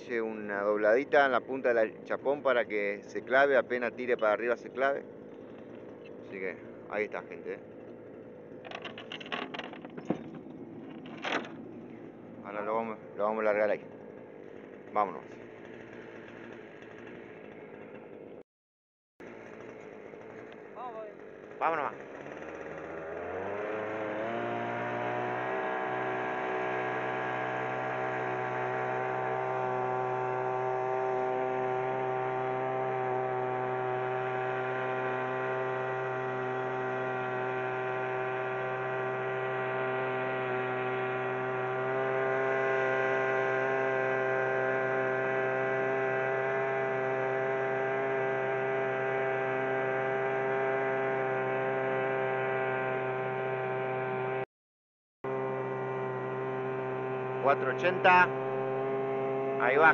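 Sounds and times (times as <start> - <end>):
outboard motor running: 0.0 - 18.4, 19.2 - 54.4, 55.2 - 59.9.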